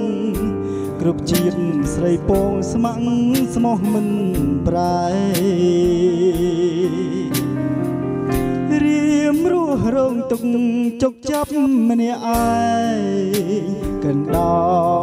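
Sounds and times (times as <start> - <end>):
man singing into microphone: 0.0 - 7.7, 8.4 - 15.0
backing track with drum beat: 0.0 - 15.0.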